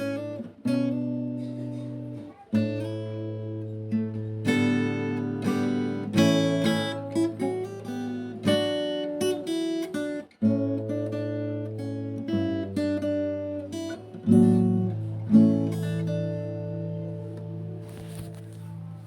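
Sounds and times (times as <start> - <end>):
plucked acoustic guitar: 0.0 - 19.0.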